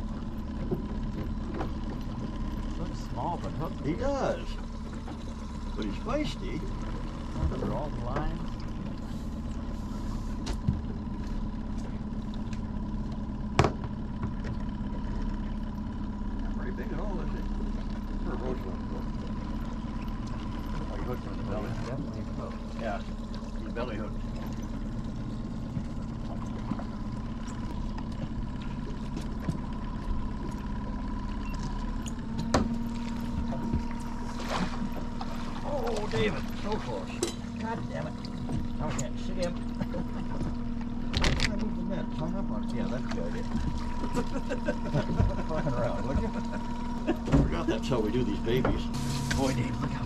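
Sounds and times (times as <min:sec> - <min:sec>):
boat motor humming: 0:00.0 - 0:50.0.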